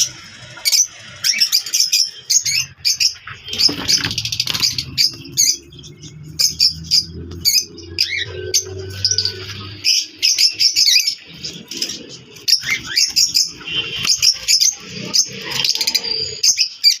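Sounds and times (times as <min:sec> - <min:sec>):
parrots chirping and calling: 0:00.0 - 0:17.0.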